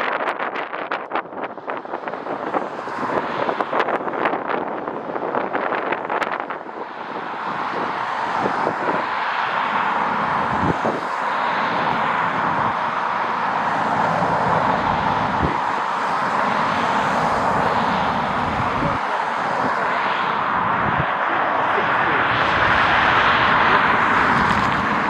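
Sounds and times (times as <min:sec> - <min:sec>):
wind buffeting microphone: 0:00.0 - 0:25.0
jet engines roaring: 0:01.5 - 0:25.0.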